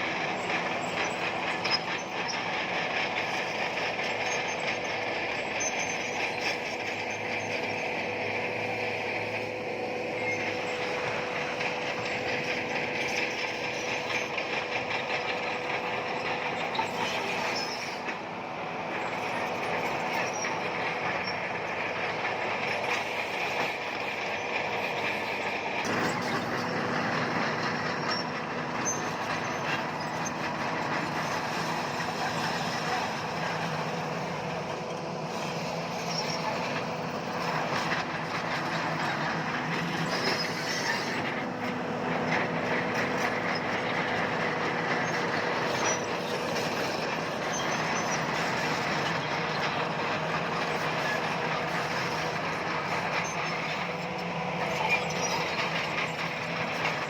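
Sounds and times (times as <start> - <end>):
bulldozer diesel engine running: 0.0 - 57.0
steel tracks moving: 0.0 - 57.0.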